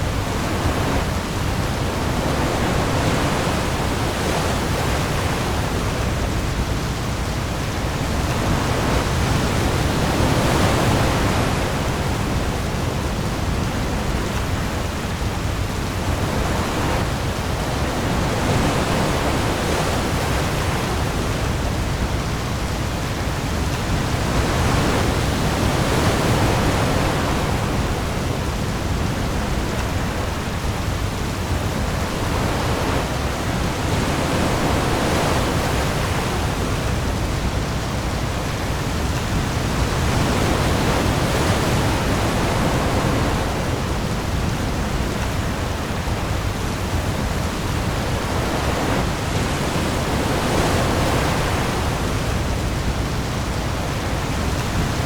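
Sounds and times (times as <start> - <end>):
heavy rain on the sea: 0.0 - 55.0
sea waves: 0.0 - 55.0.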